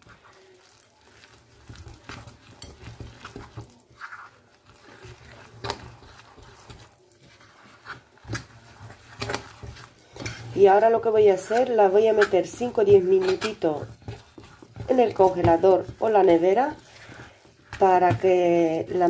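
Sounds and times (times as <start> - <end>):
utensil scraping dough in bowl: 0.0 - 19.0.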